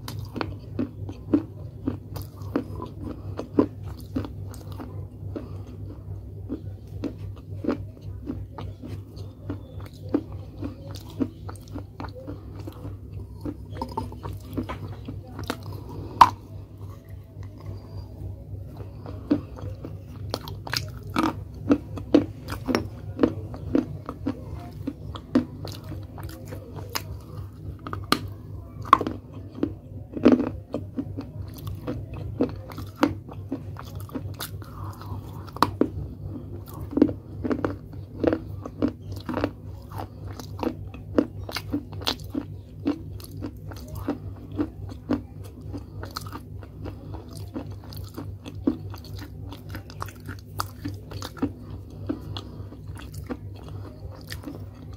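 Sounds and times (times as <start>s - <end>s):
clay crunching in mouth: 0.0s - 54.9s
low steady hum: 0.0s - 54.9s.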